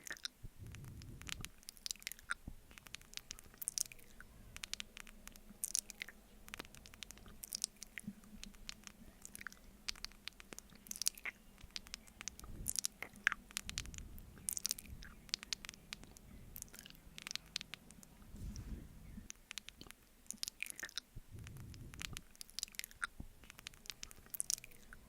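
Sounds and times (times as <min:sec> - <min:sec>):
wet mouth eating sounds: 0:00.0 - 0:25.0.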